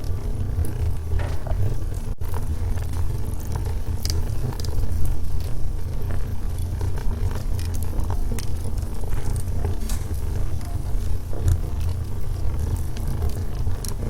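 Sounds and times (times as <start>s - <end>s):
burning logs crackling and popping: 0.0s - 14.0s
low rumble of fire flames: 0.0s - 14.0s.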